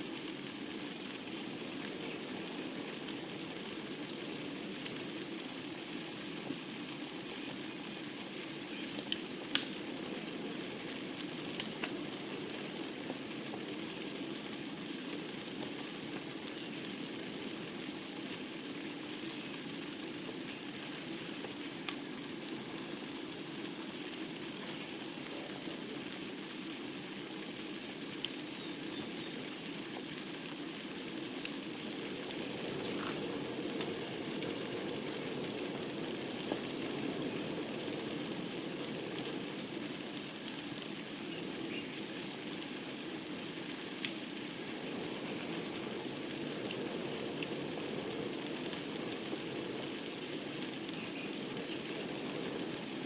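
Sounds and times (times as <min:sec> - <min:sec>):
logs crackling and popping: 0:00.0 - 0:53.0
fire flame rushing: 0:08.0 - 0:28.4, 0:29.6 - 0:53.0.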